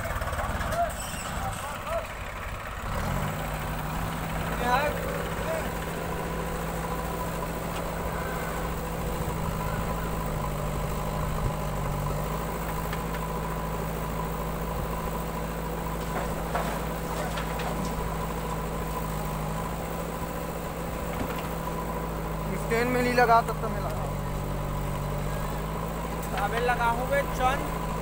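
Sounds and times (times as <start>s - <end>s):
backhoe loader working: 0.0s - 28.0s
tractor diesel engine idling: 0.0s - 28.0s.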